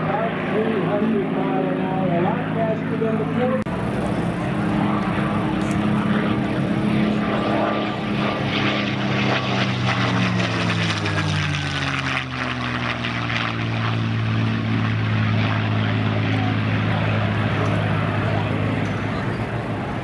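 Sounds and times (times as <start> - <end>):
propeller plane engine passing: 3.7 - 20.0.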